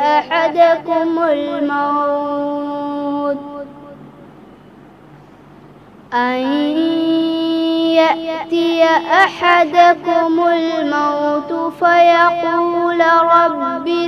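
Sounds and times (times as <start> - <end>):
boy chanting recitation: 0.0 - 4.1, 6.1 - 14.0.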